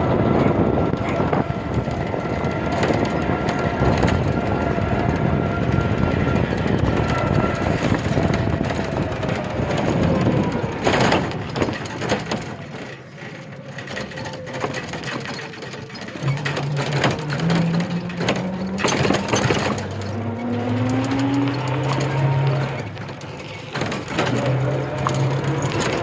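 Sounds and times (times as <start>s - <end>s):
motor vehicle running: 0.0s - 26.0s.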